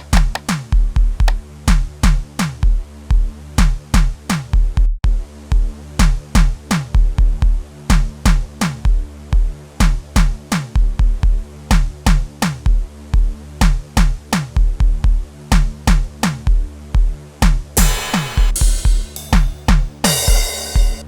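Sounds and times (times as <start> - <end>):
drum machine beat: 0.0 - 5.2, 6.0 - 16.6, 17.4 - 21.0.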